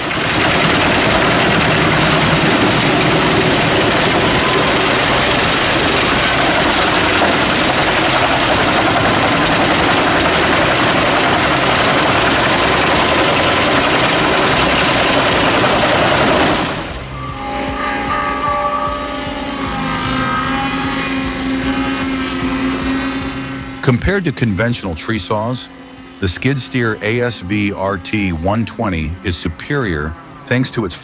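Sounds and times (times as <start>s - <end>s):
drum chipper chipping wood: 0.0s - 30.9s
tractor engine running: 0.0s - 31.0s.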